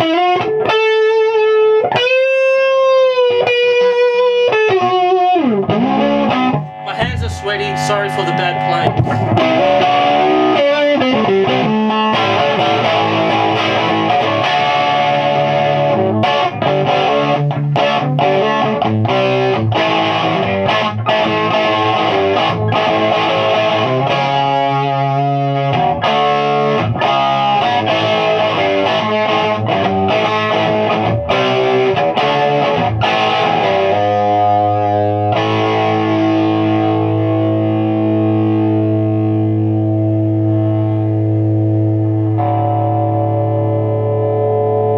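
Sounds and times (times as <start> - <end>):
overdriven electric guitar chords: 0.0 - 44.9.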